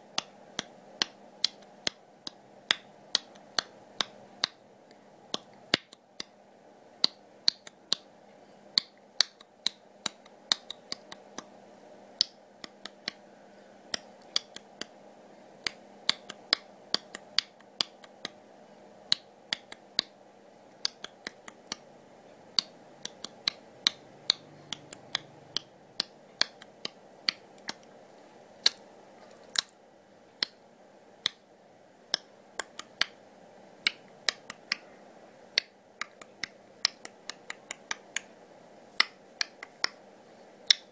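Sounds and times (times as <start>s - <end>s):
faint steady hiss: 0.0s - 40.9s.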